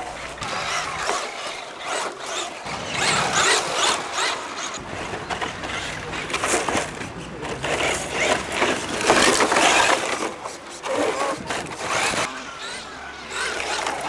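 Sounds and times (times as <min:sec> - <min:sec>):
toy car motor whining: 0:00.0 - 0:14.0
tyres on gravel: 0:00.0 - 0:14.0.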